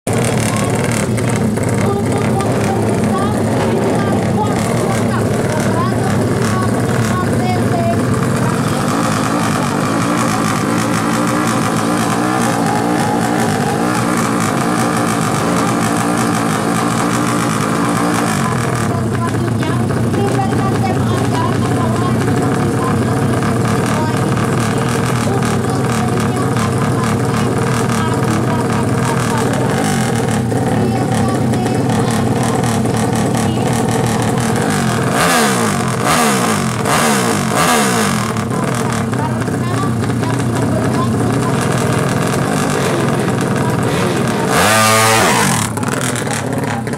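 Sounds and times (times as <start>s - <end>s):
motorcycle engine running loudly: 0.0s - 46.9s.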